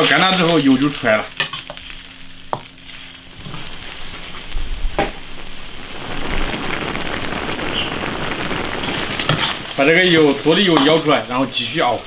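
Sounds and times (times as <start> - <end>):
fat sizzling in a wok: 0.0 - 12.0.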